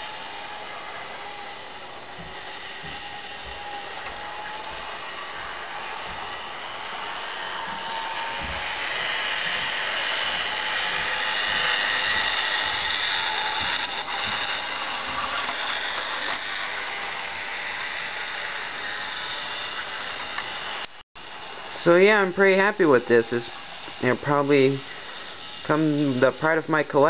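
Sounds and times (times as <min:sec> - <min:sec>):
model train motor whine: 0:00.0 - 0:27.0.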